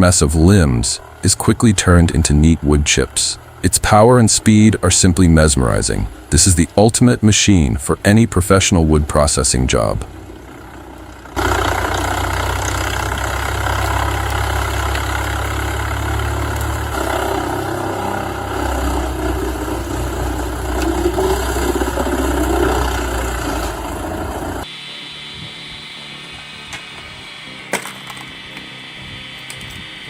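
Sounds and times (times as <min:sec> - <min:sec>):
wood chipper diesel engine drone: 0:00.0 - 0:30.0.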